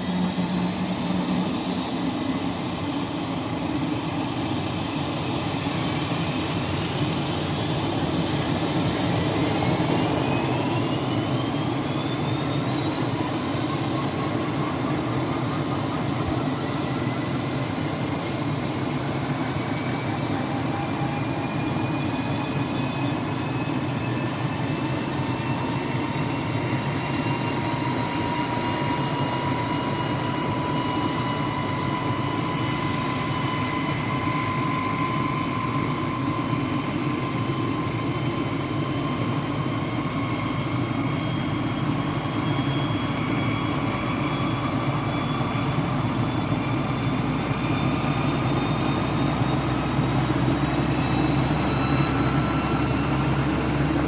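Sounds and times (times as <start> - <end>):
helicopter engine whine: 0.0 - 54.0
helicopter low rumble: 0.0 - 54.0.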